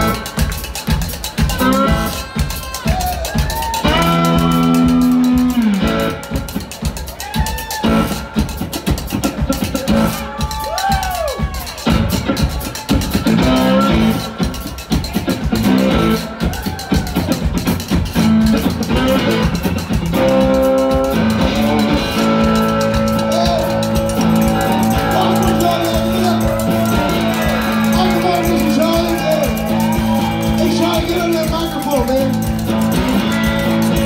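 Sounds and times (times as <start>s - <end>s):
guitar: 0.0s - 34.0s.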